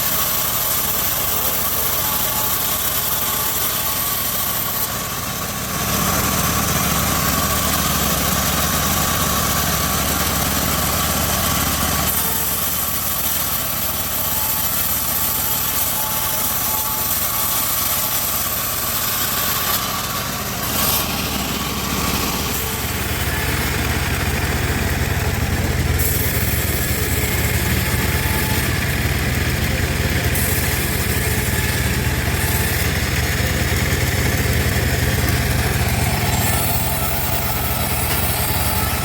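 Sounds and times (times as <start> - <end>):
bandsaw mill running: 0.0 - 39.0.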